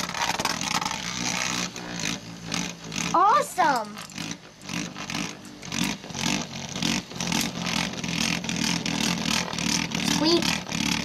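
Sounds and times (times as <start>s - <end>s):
spinning top grinding on plastic: 0.0s - 11.0s.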